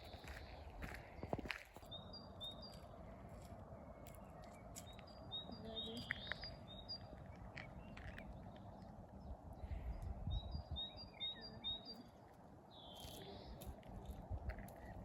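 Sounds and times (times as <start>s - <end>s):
small songbird chirping: 0.0s - 15.0s.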